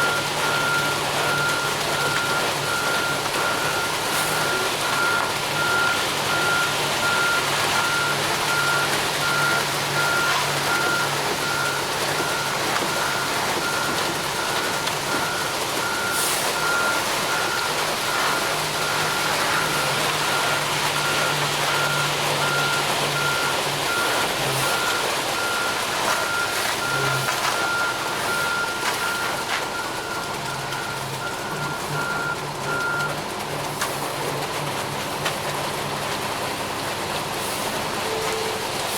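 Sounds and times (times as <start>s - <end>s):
truck back-up alarm beeping: 0.0s - 35.0s
truck engine running: 0.0s - 38.9s.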